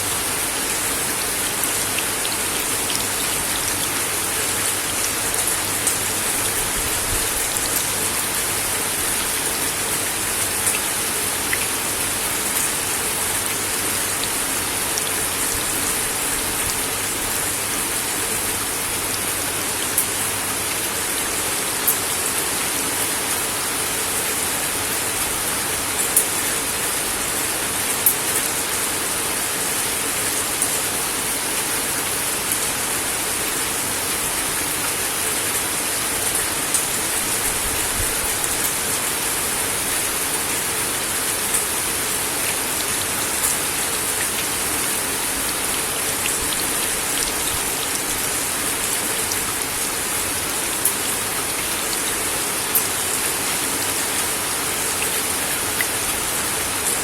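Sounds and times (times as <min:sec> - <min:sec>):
rain on a wooden deck: 0:00.0 - 0:57.0.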